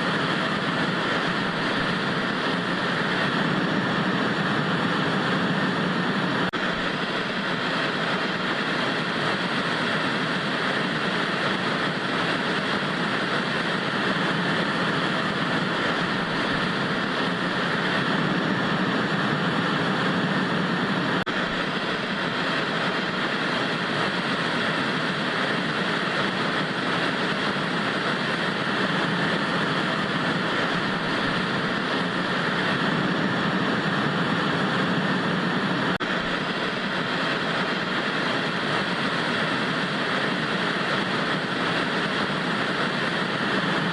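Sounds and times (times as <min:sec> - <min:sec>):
tv static hiss: 0:00.0 - 0:43.9.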